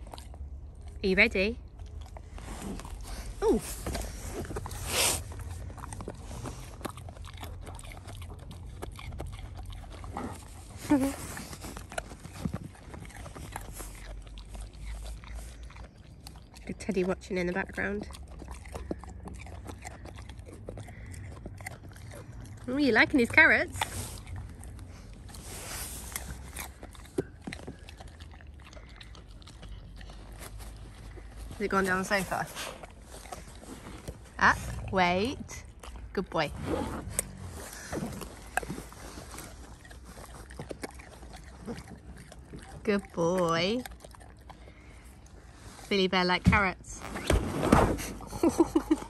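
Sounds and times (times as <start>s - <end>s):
dog chewing carrot: 0.0s - 47.3s.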